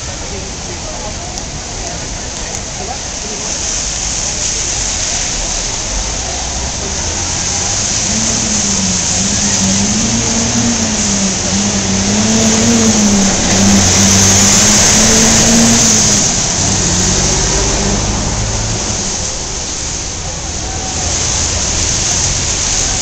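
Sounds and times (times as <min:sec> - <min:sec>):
heavy rain hissing: 0:00.0 - 0:23.0
tyres on wet pavement: 0:00.0 - 0:23.0
vehicle engine drone: 0:00.0 - 0:23.0.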